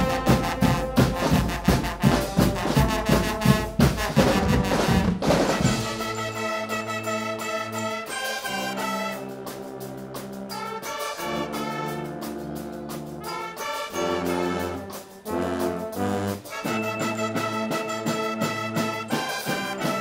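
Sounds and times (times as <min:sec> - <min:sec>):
brass band playing chords: 0:00.0 - 0:20.0.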